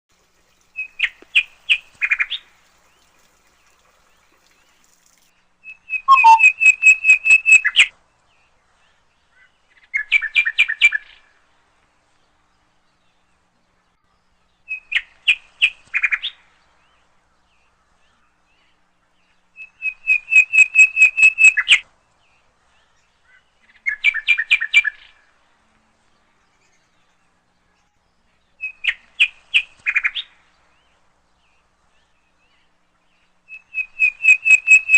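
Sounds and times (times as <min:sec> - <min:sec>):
songbird singing: 0:00.2 - 0:11.2, 0:14.3 - 0:25.5, 0:26.1 - 0:34.9.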